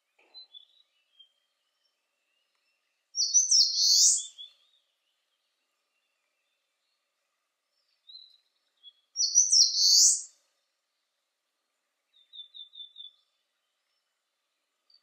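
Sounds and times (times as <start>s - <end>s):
warbler singing: 0.1s - 11.2s, 12.0s - 15.0s.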